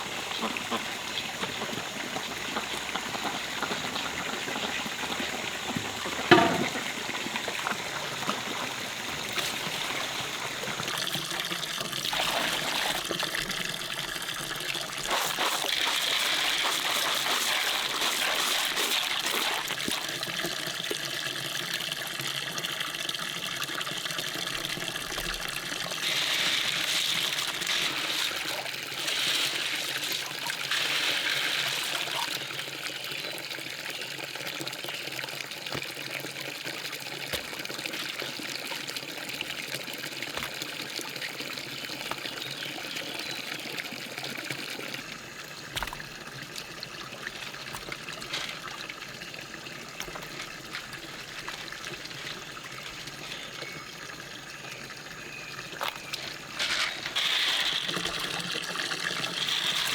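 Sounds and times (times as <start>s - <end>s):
water trickling and pouring: 0.0s - 59.9s.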